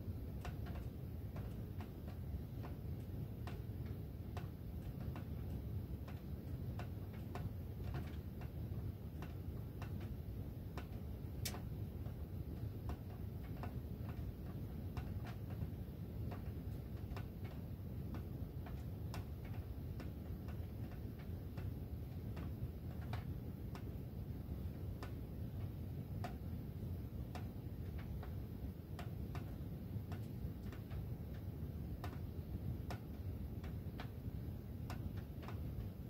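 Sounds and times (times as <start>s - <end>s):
ductwork ticking and clicking: 0.1s - 36.0s.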